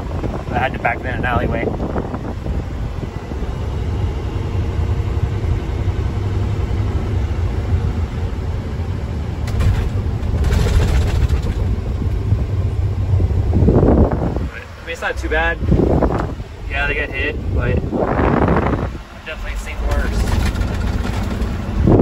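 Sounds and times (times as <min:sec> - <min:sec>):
truck diesel engine rumble: 0:00.0 - 0:22.0.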